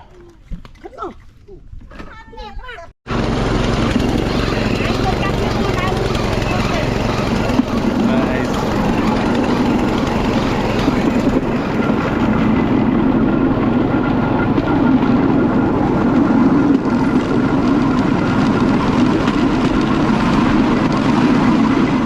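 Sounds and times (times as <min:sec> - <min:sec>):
platform rattling on track: 0:03.1 - 0:22.0
train motor running: 0:03.1 - 0:22.0.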